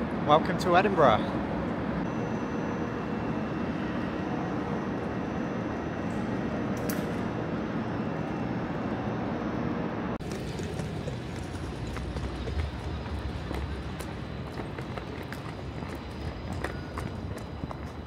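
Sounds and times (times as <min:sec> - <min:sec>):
faint steady whine: 0:00.0 - 0:18.0
hum and rumble of standing train: 0:00.0 - 0:18.0.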